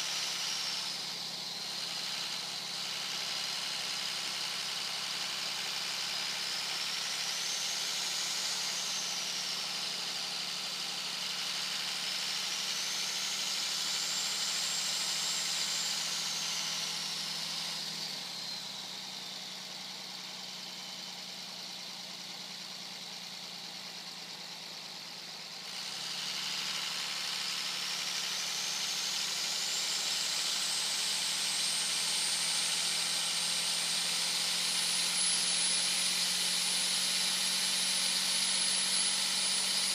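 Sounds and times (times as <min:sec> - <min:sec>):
turbocharger whistling: 0:00.0 - 0:39.9.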